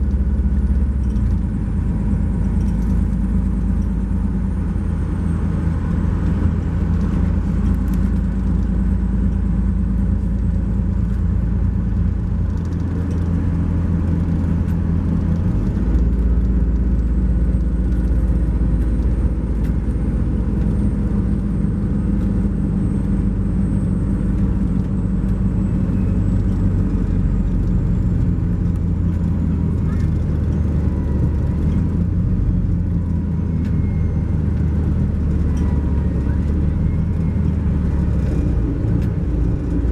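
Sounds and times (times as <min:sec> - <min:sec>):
coach diesel engine drone: 0:00.0 - 0:39.9
road noise: 0:00.0 - 0:39.9.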